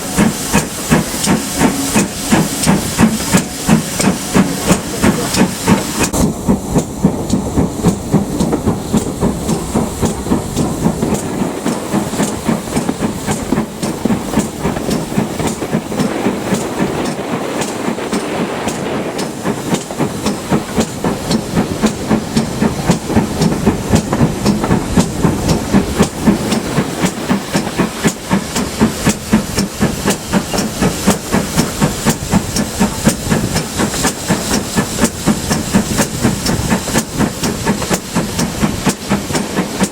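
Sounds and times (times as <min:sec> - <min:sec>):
hiss of steam: 0:00.0 - 0:39.9
steam locomotive exhaust beats: 0:00.0 - 0:39.9.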